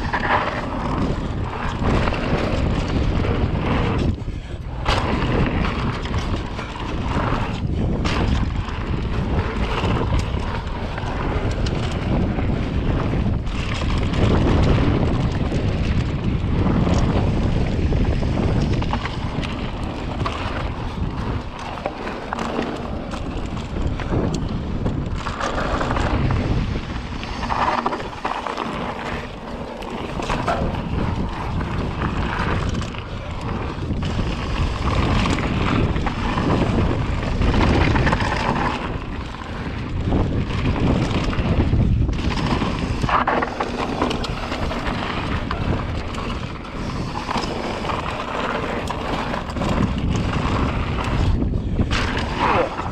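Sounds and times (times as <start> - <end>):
bike knocks and rattles: 0.0 - 52.9
bike tyres rolling on dirt: 0.0 - 52.9
wind buffeting the microphone: 0.0 - 52.9.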